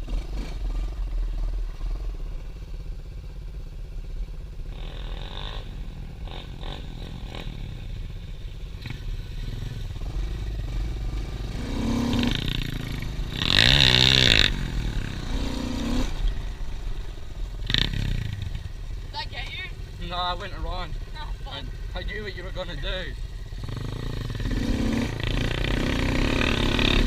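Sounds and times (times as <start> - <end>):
motorbike engine revving: 0.0 - 2.1, 4.6 - 27.0.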